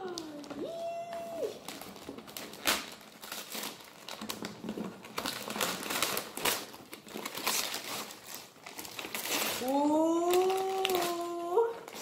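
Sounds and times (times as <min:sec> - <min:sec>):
wrapping paper tearing and crinkling: 0:00.0 - 0:12.0.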